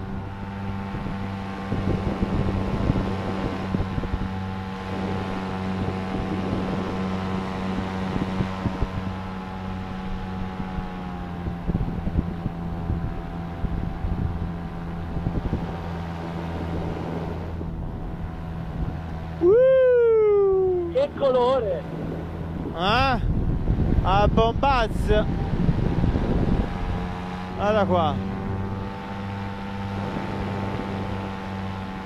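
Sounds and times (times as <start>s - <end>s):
paramotor engine and propeller: 0.0s - 32.0s
wind buffeting microphone: 0.0s - 32.0s.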